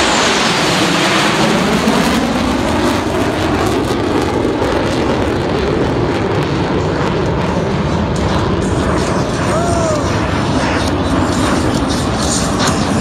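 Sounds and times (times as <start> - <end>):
fighter jets flying overhead: 0.0 - 13.0.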